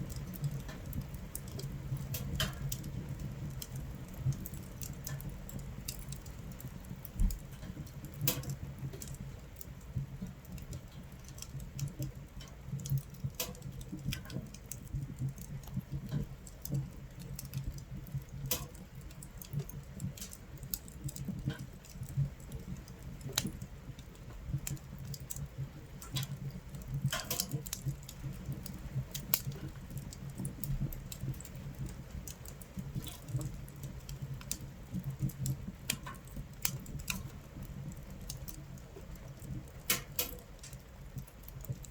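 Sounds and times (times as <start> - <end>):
rain on a tent: 0.0 - 41.9
wood fire crackling and popping: 0.0 - 41.9.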